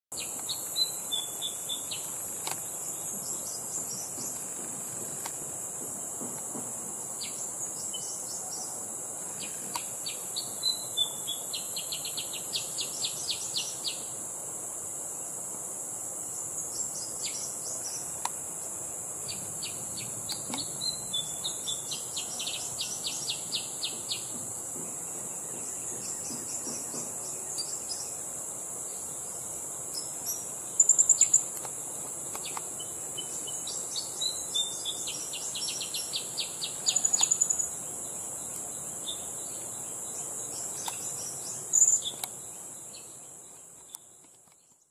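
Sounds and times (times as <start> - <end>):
high insect drone: 0.1 - 44.9.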